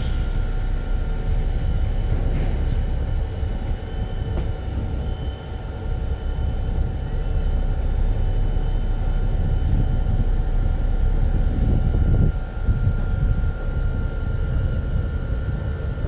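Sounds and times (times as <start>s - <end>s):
diesel engines low rumble: 0.0s - 16.0s.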